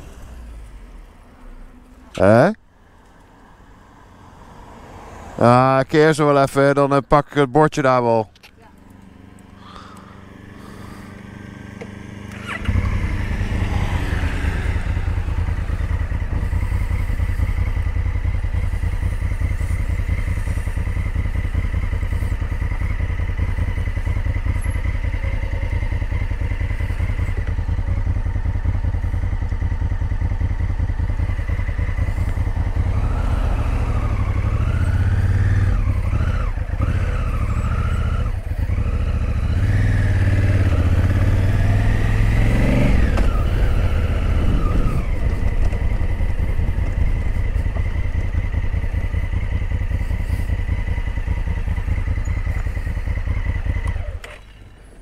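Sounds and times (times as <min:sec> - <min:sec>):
motorcycle engine droning: 0:04.9 - 0:55.0.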